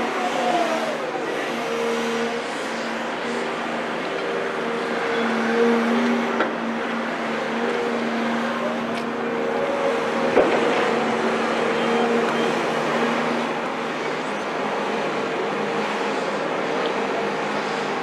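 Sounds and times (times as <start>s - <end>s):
excavator diesel engines running: 0.0s - 18.0s.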